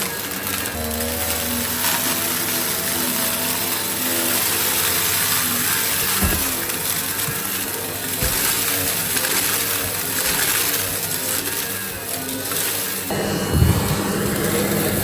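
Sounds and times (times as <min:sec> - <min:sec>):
debris rattling through vacuum: 0:00.0 - 0:15.0
vacuum cleaner running: 0:00.0 - 0:15.0.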